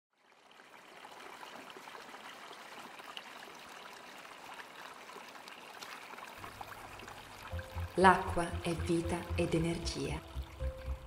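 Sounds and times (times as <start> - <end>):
stream trickling over rocks: 0.1 - 11.0.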